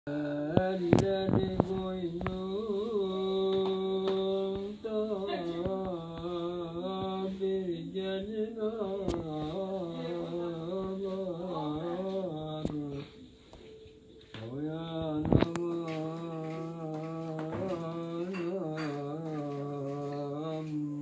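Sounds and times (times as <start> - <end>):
man singing unaccompanied: 0.1 - 13.3, 14.3 - 21.0.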